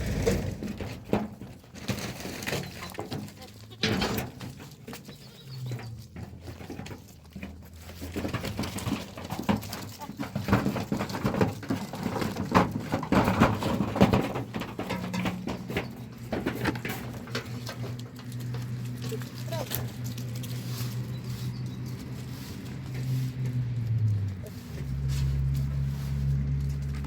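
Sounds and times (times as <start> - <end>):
goats moving about: 0.0 - 27.0.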